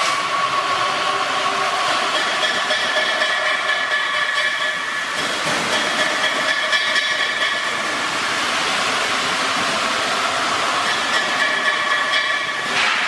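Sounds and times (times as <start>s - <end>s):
grinding machine hiss: 0.0s - 13.0s.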